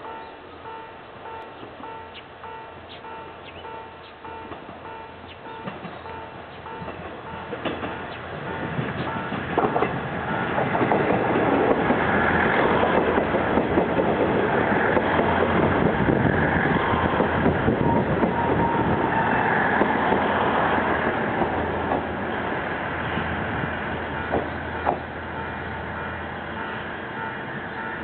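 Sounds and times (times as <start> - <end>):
train wheels rumbling over rails: 0.0 - 28.0.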